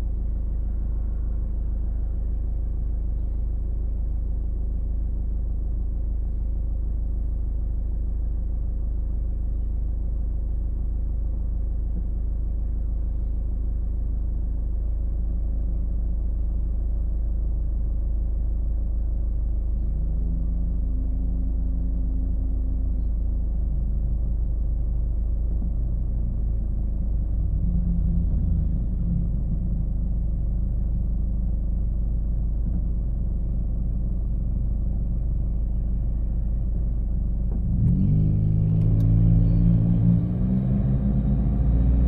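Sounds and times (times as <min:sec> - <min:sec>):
car road and engine rumble: 0:00.0 - 0:42.0
humming engine tone: 0:00.0 - 0:42.0.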